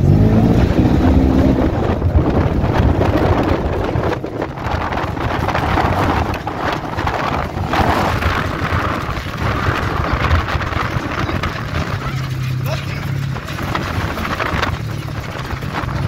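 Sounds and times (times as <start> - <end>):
vehicle engine running: 0.0 - 16.0
wind buffeting microphone: 0.0 - 16.0.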